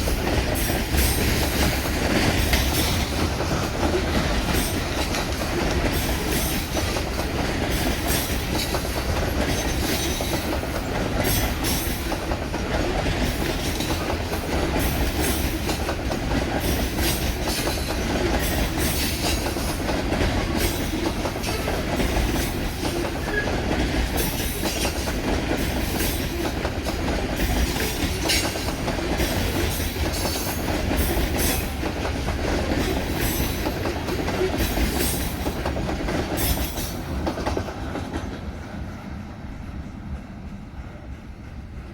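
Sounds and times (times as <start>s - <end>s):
wheels clicking over rail joints: 0.0s - 38.6s
freight train rumbling past: 0.0s - 41.9s.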